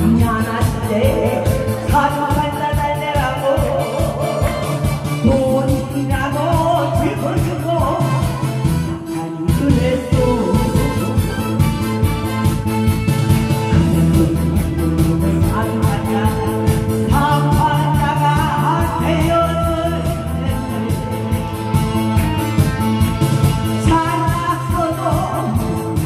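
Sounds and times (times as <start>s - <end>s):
woman singing into microphone: 0.0s - 12.6s, 15.3s - 21.6s, 23.7s - 26.0s
backing music with steady beat: 0.0s - 26.0s.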